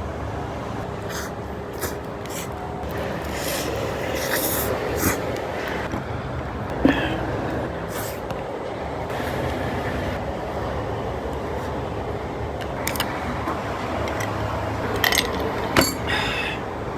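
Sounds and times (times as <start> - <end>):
rumbling background noise: 0.0 - 16.9.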